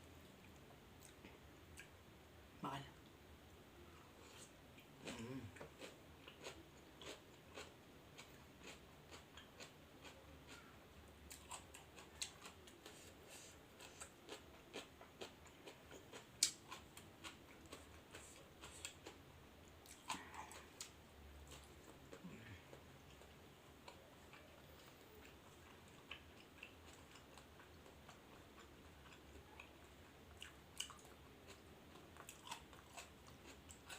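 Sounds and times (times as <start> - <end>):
chewing and biting food: 5.0 - 10.7, 11.3 - 19.2, 19.8 - 33.9.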